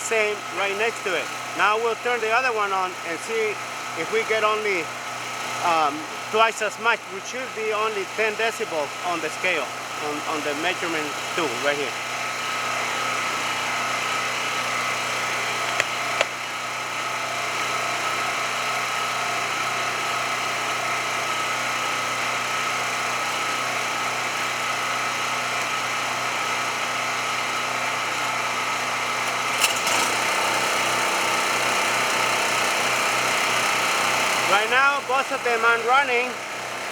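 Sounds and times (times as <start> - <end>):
portable generator running: 0.0 - 36.9
second generator running: 0.0 - 36.9.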